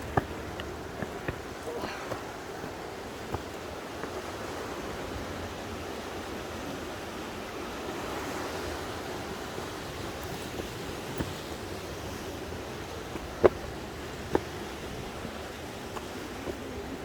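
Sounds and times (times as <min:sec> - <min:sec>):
sea surf washing ashore: 0:00.0 - 0:17.0.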